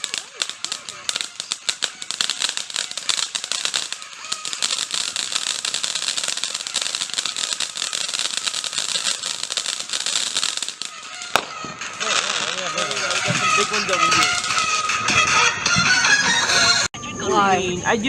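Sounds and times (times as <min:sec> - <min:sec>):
sharp firework bang: 0:00.0 - 0:14.9
fireworks crackling: 0:00.0 - 0:16.9.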